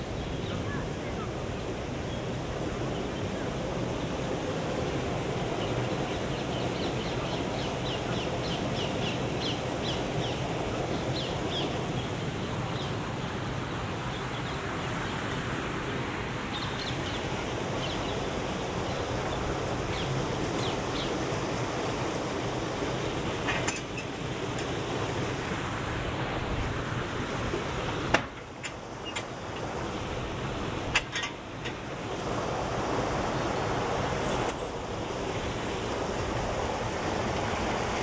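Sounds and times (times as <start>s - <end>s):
flowing river water: 0.0s - 38.0s.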